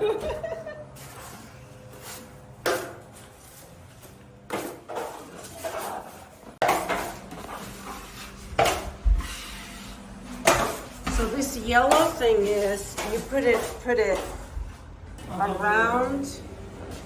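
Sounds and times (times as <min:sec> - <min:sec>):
drywall knife scraping: 0:01.0 - 0:14.6.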